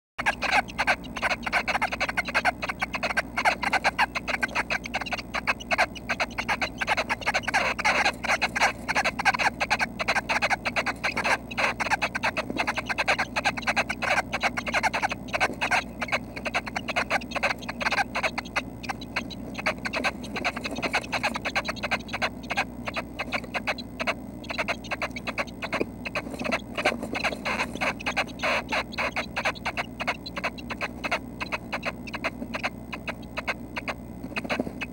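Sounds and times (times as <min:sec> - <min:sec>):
nestlings chattering: 0:00.2 - 0:34.9.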